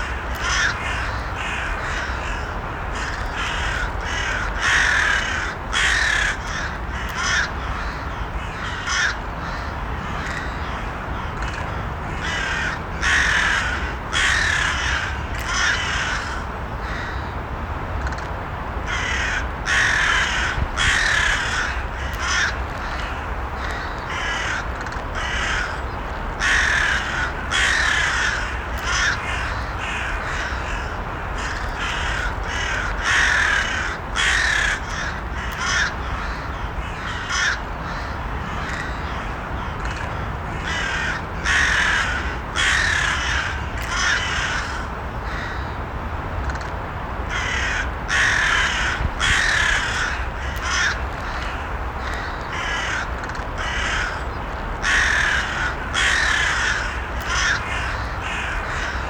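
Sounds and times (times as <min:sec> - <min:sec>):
crows cawing: 0:00.0 - 0:17.3, 0:18.9 - 0:45.8, 0:47.3 - 0:59.0
steady background noise: 0:00.0 - 0:59.0.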